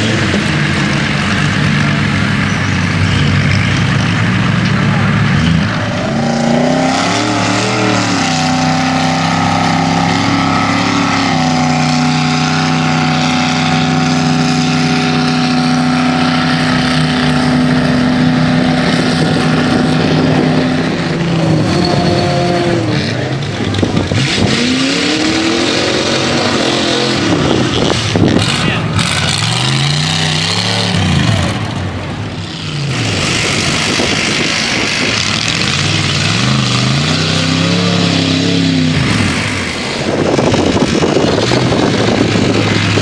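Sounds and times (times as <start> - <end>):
truck engines revving: 0.0 - 43.0
tyres churning through mud: 0.0 - 43.0.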